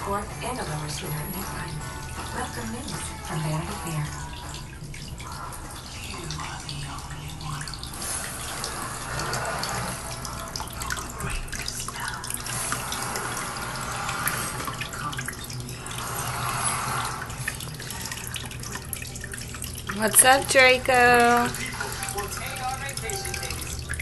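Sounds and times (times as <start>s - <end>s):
small splashes and drips: 0.0s - 24.0s
water running and trickling: 0.0s - 24.0s.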